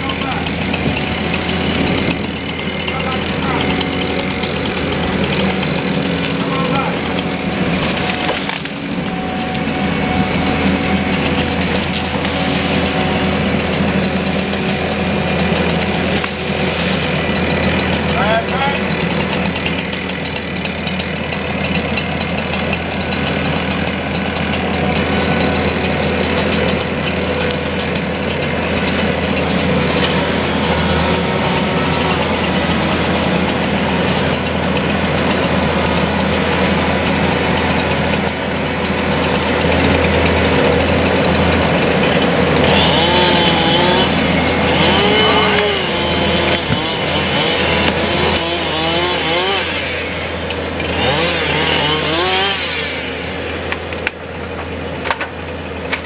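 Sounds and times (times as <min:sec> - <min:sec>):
loader engine revving: 0:00.0 - 0:56.0.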